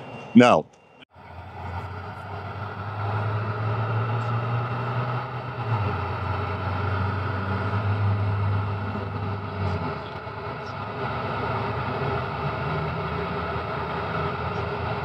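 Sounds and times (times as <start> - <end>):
vehicle engine running: 1.1 - 15.0.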